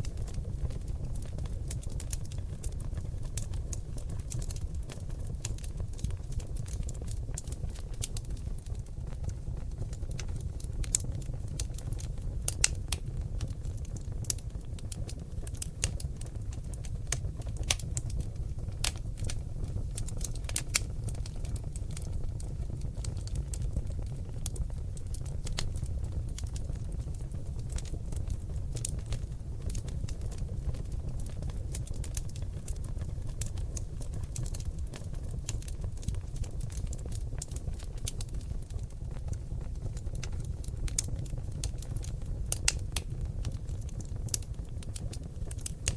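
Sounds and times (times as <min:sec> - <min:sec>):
logs crackling in fireplace: 0:00.0 - 0:45.9.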